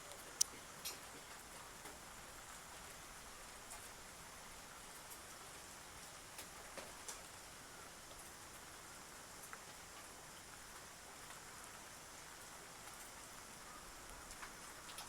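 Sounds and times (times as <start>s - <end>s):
steady soft hiss: 0.0s - 15.0s.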